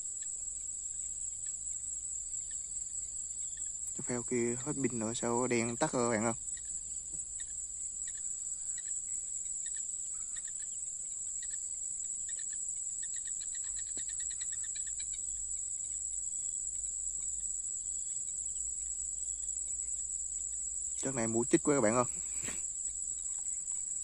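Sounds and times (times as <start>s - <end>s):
crickets trilling: 0.0s - 24.0s
lower chirps: 0.0s - 24.0s.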